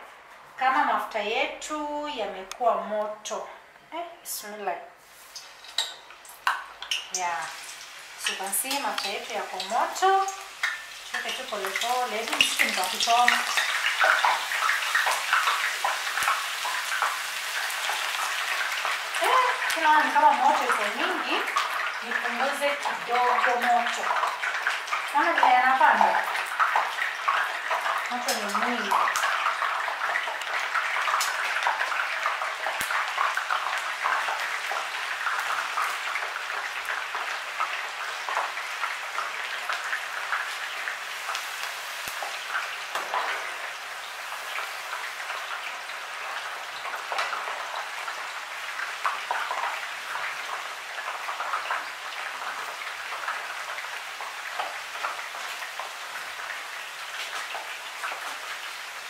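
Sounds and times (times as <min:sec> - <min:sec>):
onions sizzling in hot oil: 0:04.3 - 0:59.0.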